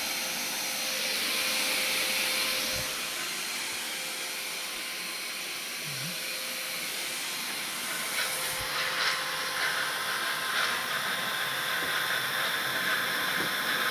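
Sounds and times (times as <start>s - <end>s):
vacuum cleaner running: 0.0s - 13.9s.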